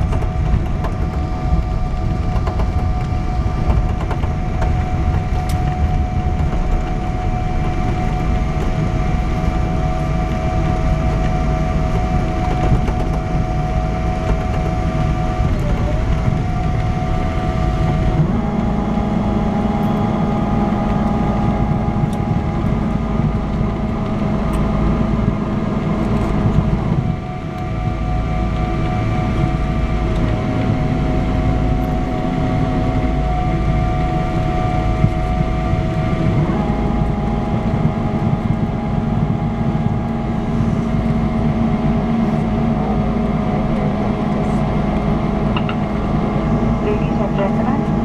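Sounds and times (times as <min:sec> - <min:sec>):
deep engine hum: 0:00.0 - 0:48.0
jet engines whining: 0:00.0 - 0:48.0.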